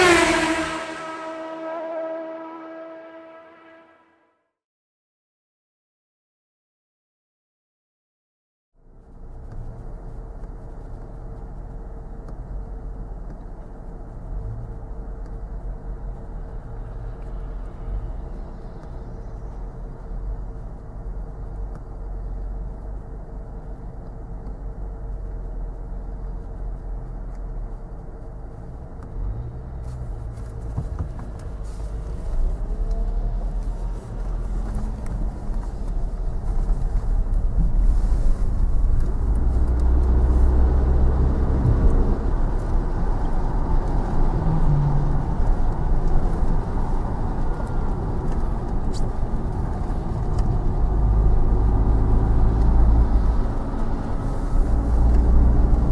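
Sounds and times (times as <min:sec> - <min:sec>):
sports car engines droning: 0:00.0 - 0:04.0, 0:08.8 - 0:55.9
wet road noise: 0:08.8 - 0:55.9.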